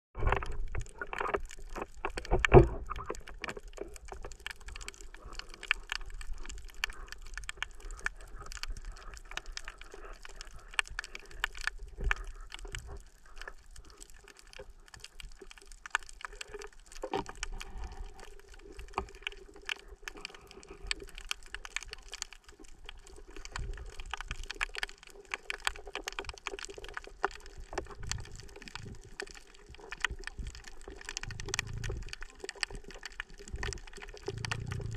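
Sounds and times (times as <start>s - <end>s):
underwater crackle of clicks: 0.2s - 34.9s.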